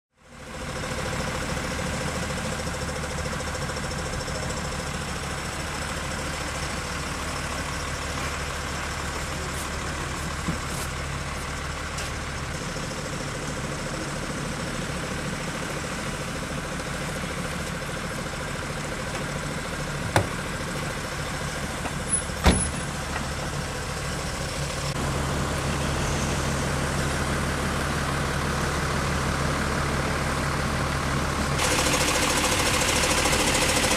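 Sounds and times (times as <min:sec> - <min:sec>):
vehicle engines idling: 0:00.2 - 0:33.9.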